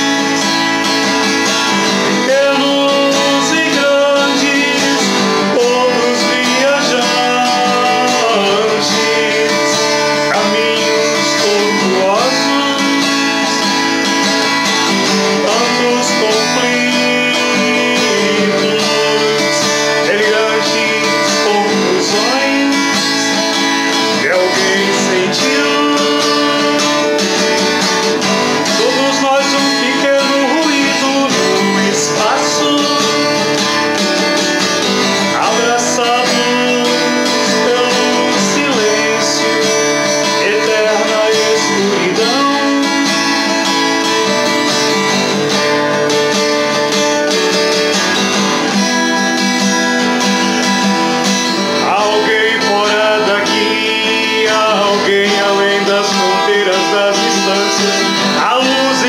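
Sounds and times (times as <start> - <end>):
acoustic guitar strumming: 0.0 - 59.0
man singing: 0.0 - 59.0.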